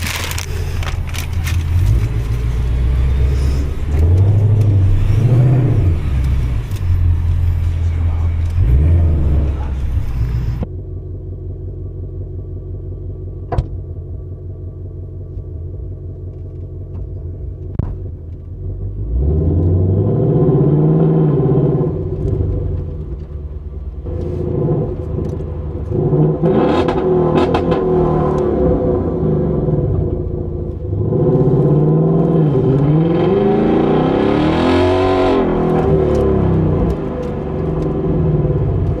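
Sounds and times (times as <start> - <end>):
car engine idling and accelerating: 0.0 - 39.0.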